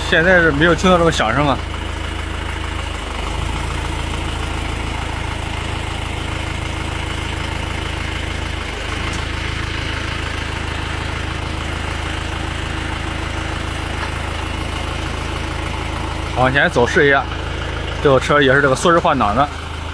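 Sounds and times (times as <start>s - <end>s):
tractor engine idling: 0.0s - 19.9s.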